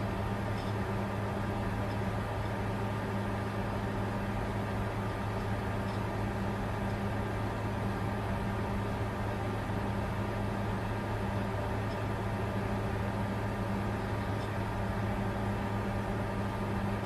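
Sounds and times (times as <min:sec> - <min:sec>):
constant low hum: 0:00.0 - 0:17.0
cooling fans whirring: 0:00.0 - 0:17.0.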